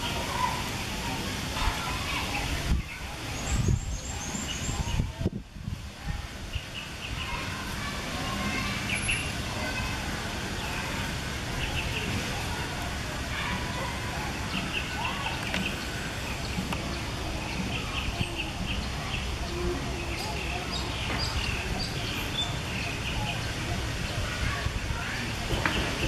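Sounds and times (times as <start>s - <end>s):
small birds chirping: 1.6s - 5.3s, 6.3s - 26.0s.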